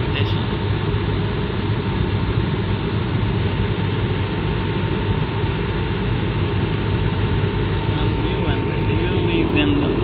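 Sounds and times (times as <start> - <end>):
aircraft cabin engine and airflow: 0.0 - 10.0
faint steady whine: 0.0 - 10.0.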